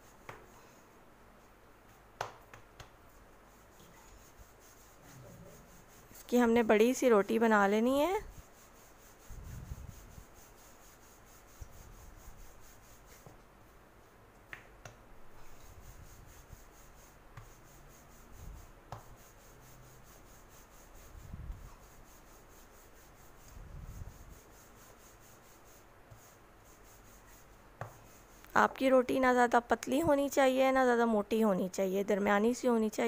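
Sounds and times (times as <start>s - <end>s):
rolling pin rubbing on dough: 0.0s - 1.5s, 2.5s - 13.5s, 15.3s - 30.6s.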